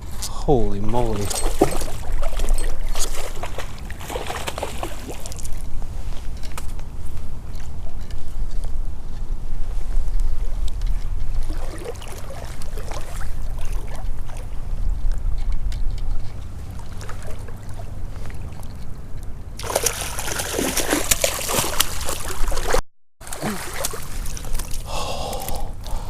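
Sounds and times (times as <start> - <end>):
creek water splashing: 0.5 - 6.4, 10.4 - 19.0, 19.6 - 26.0.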